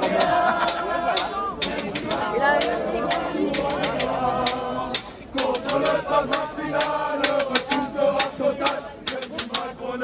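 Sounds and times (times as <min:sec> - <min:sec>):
crowd chanting: 0:00.0 - 0:10.0
sharp percussive hits: 0:00.0 - 0:10.0.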